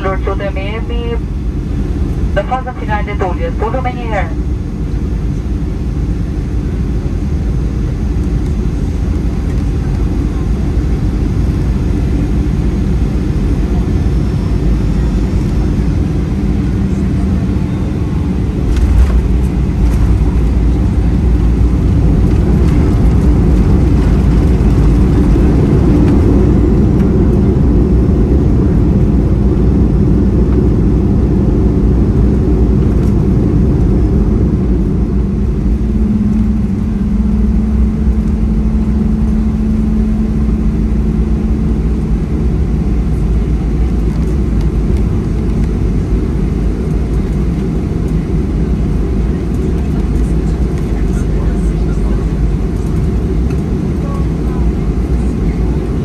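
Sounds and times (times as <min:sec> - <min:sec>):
jet engine and airflow rush in cabin: 0:00.0 - 0:56.0
steady hum: 0:00.0 - 0:56.0.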